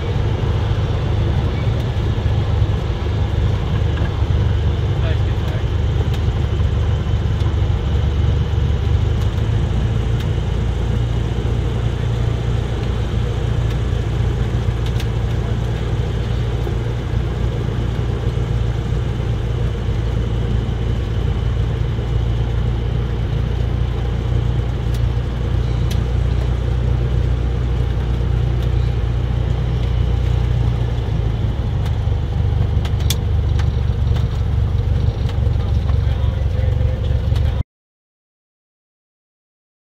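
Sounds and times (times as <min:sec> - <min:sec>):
aircraft engine low drone: 0:00.0 - 0:37.6.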